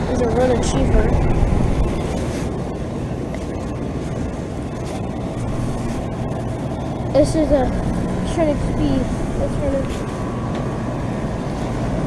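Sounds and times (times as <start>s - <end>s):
condenser fan rushing: 0.0s - 12.0s
heat pump humming: 0.0s - 12.0s.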